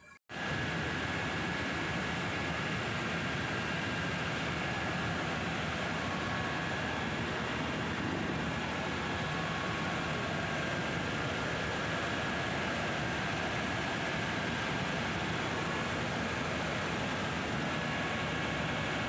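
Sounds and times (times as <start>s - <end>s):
helicopter cabin drone: 0.3s - 19.0s.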